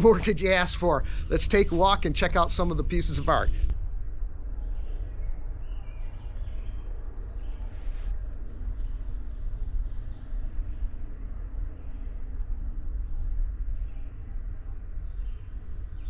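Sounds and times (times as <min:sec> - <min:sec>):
low microphone rumble: 0:00.0 - 0:16.0
songbirds chirping: 0:00.0 - 0:16.0.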